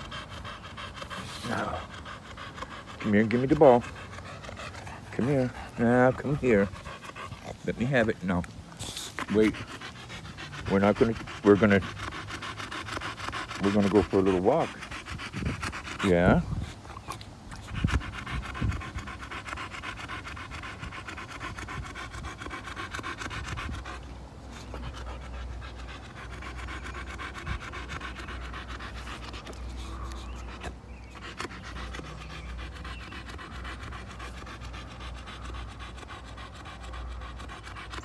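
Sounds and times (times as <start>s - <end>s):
dog panting: 0.0s - 38.0s.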